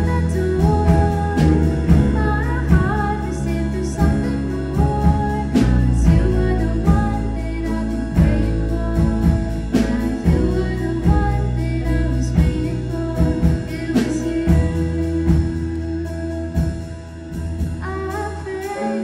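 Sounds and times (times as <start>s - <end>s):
woman singing into a microphone: 0.0s - 16.9s, 17.6s - 19.0s
drums: 0.0s - 19.0s
low bass line: 0.0s - 19.0s.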